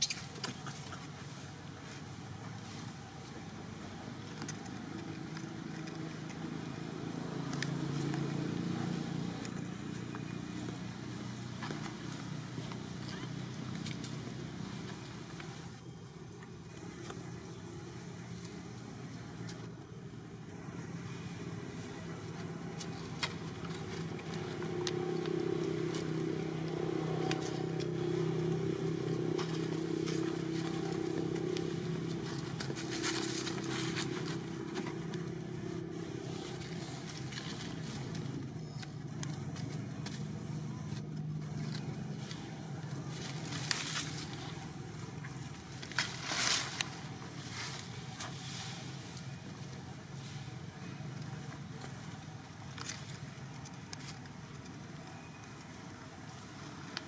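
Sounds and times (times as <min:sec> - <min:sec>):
vehicle engine hum: 0:00.0 - 0:57.0.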